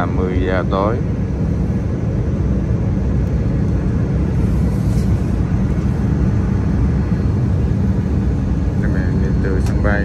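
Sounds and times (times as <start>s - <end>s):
aircraft cabin rumble: 0.0s - 10.0s.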